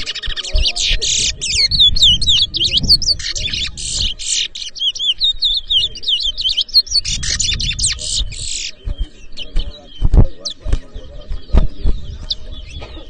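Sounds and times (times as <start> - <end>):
finch singing whistled chirps: 0.0 - 13.0.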